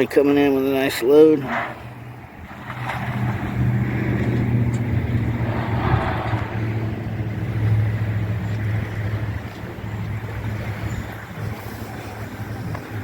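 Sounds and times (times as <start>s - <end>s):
vehicle engine humming: 1.4s - 13.0s.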